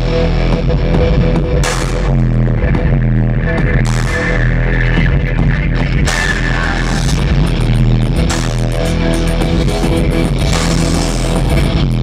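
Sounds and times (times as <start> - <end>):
loud electronic concert music: 0.0 - 12.0.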